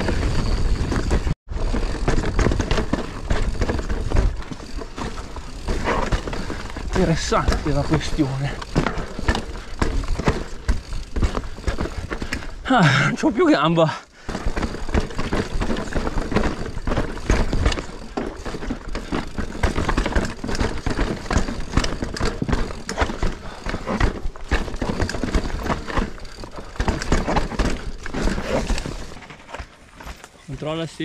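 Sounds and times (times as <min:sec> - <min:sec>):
bike clattering over rocks: 0:00.0 - 0:30.4.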